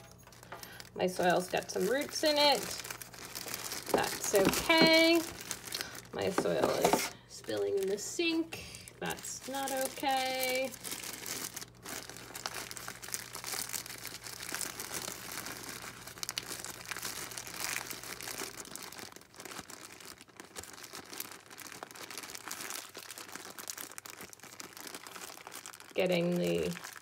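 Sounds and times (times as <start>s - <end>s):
plastic bag crinkling: 0.0s - 27.0s.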